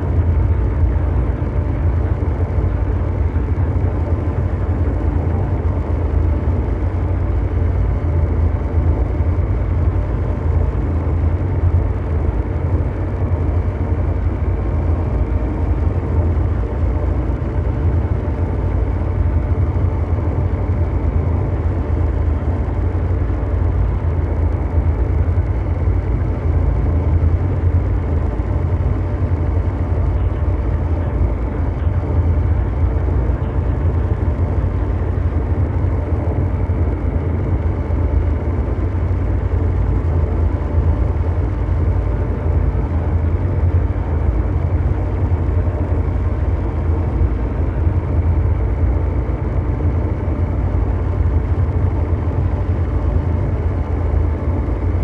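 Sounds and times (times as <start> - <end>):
deep engine-like rumble: 0.0 - 55.0
faint steady hum tones: 0.0 - 55.0.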